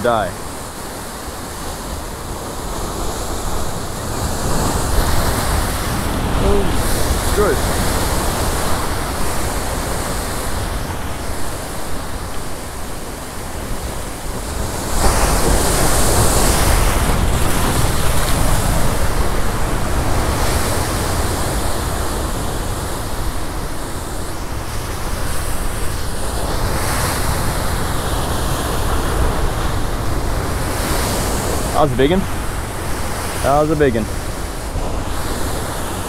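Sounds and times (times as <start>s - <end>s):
surf breaking over rocks: 0.0s - 36.0s
wind buffeting microphone: 0.0s - 36.0s.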